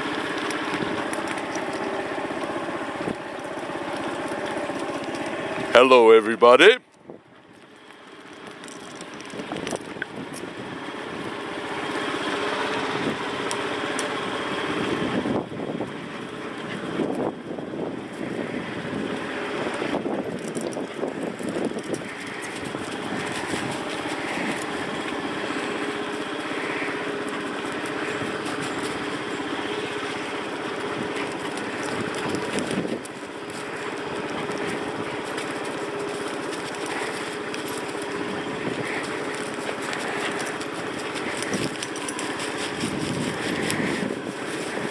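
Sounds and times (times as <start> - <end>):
motorbike engine running: 0.0 - 6.3, 7.8 - 44.9.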